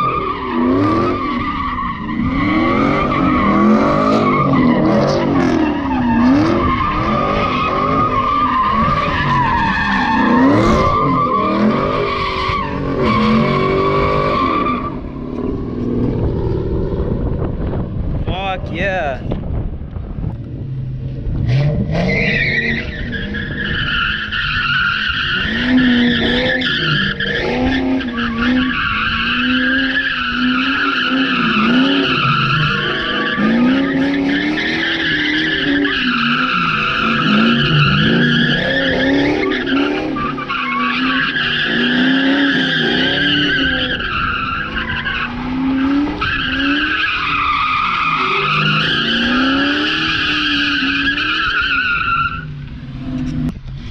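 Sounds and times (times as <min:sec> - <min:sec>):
tires squealing: 0:00.0 - 0:17.8, 0:21.2 - 0:53.9
car engine revving: 0:00.0 - 0:18.2, 0:19.3 - 0:53.9.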